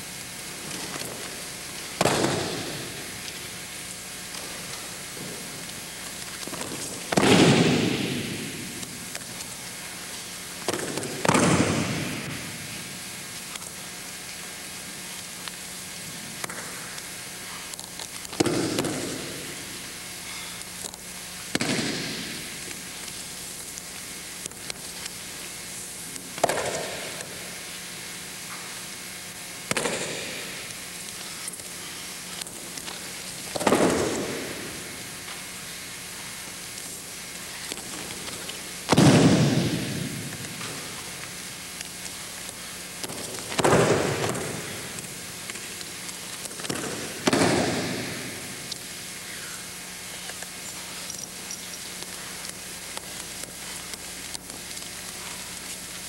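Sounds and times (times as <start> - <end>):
faint hum: 0.0 - 56.0
tape hiss: 0.0 - 56.0.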